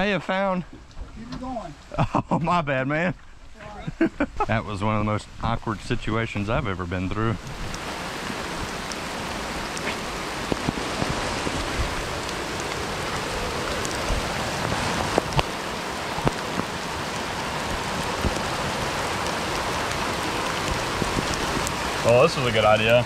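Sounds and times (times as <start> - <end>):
steady rain falling: 0.0 - 23.0
raindrops ticking close by: 3.6 - 23.0.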